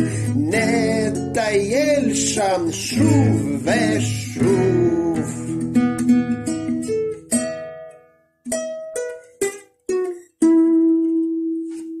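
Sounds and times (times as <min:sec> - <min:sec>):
plucked string instrument notes: 0:00.0 - 0:12.0.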